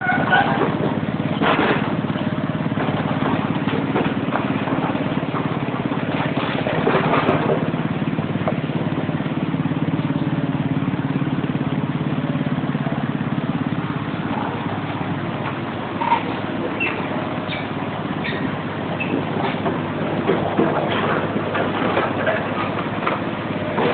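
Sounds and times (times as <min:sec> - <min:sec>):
truck engine humming: 0:00.0 - 0:23.9.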